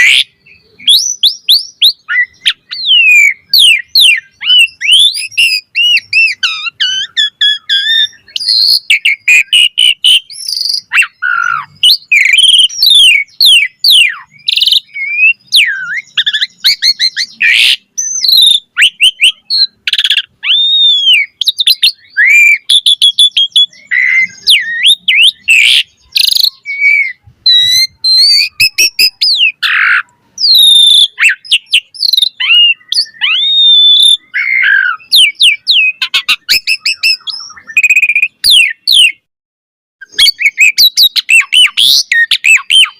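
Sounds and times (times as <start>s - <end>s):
starling singing: 0.0s - 39.3s, 40.0s - 42.9s.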